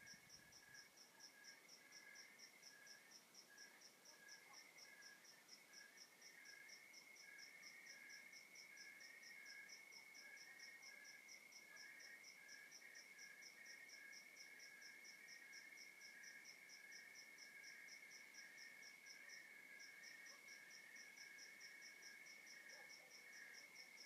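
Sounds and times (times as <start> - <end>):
high-pitched cricket chirping: 0.0 - 24.0.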